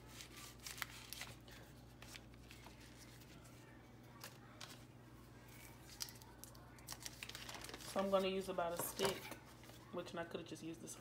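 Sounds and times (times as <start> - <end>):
paper wrapper crinkling: 0.0 - 9.9
faint room hum: 0.0 - 11.0.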